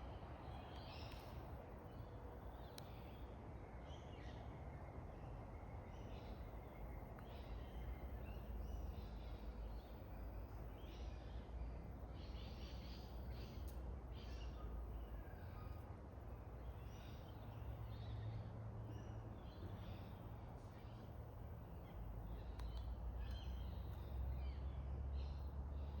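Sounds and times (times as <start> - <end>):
small birds chirping: 0.1 - 3.3, 5.3 - 15.8, 16.6 - 26.0.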